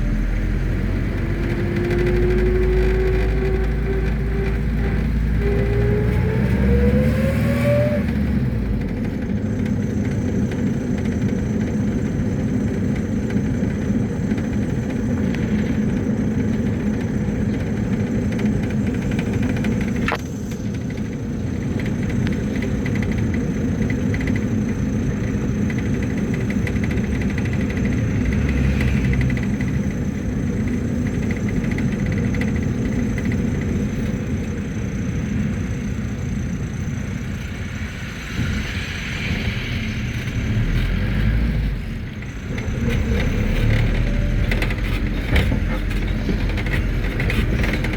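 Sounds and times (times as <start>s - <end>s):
minibus engine from inside cabin: 0.0s - 47.9s
road rumble: 0.0s - 47.9s.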